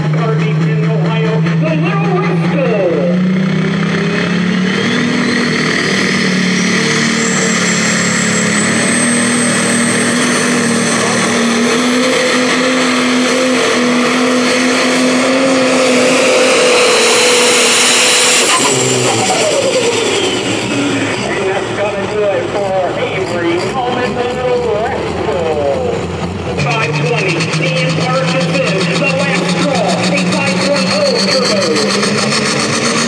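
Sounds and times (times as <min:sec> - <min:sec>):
diesel engine running flat out: 0:00.0 - 0:33.0
high turbo whine: 0:00.0 - 0:33.0.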